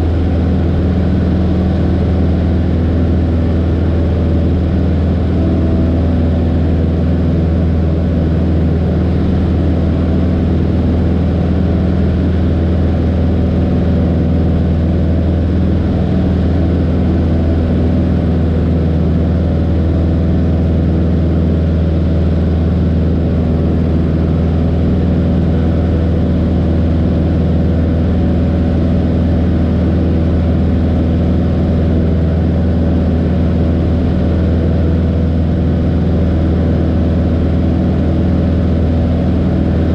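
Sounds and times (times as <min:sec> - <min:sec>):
propeller aircraft engine drone: 0:00.0 - 0:39.9.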